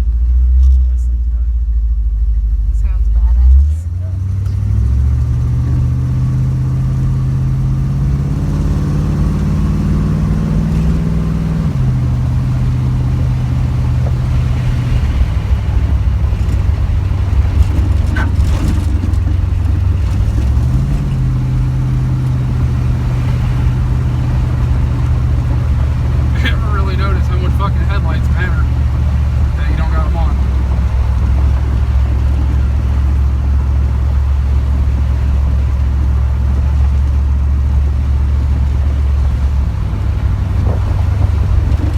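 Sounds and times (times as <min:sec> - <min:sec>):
car engine running under load: 0:00.0 - 0:41.9.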